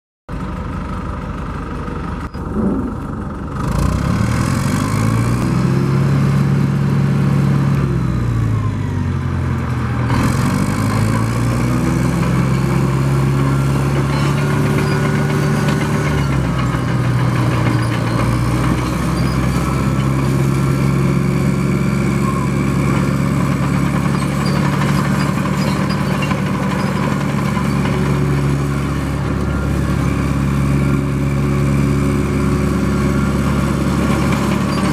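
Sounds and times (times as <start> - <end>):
loader diesel engine running: 0.3 - 34.9.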